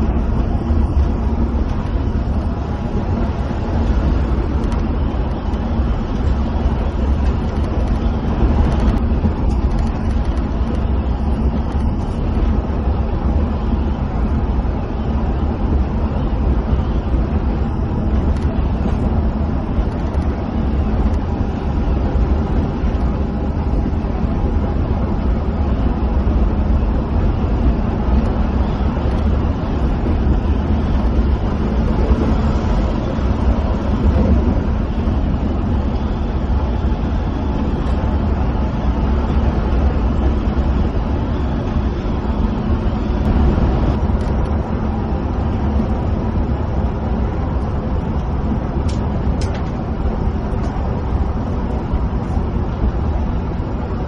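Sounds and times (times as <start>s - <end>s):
bus engine drone: 0.0s - 54.0s
tyres rumbling on road: 0.0s - 54.0s.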